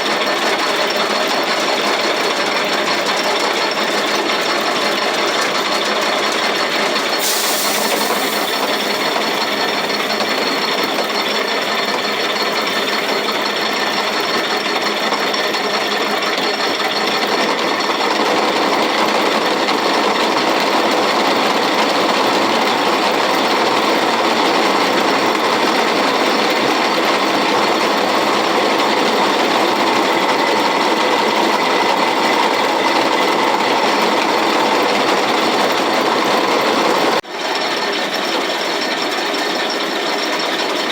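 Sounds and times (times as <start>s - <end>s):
roller mill clattering: 0.0s - 37.2s.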